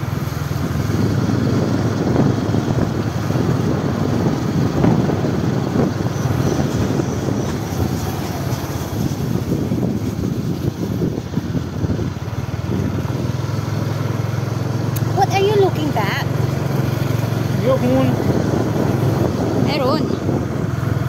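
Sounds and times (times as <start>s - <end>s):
motorcycle engine running: 0.0s - 21.0s
wind rumbling on microphone: 0.0s - 21.0s.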